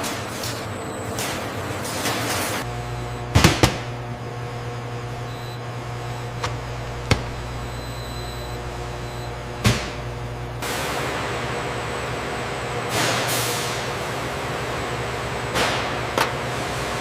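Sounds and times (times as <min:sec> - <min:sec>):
factory machinery hum: 0:00.0 - 0:17.0.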